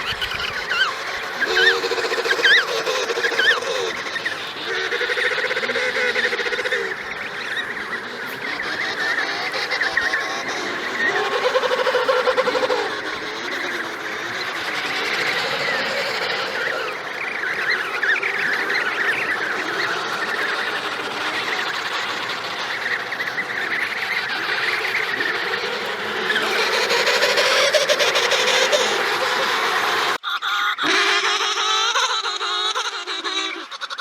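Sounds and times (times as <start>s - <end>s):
penguin colony calling: 0.0s - 34.0s.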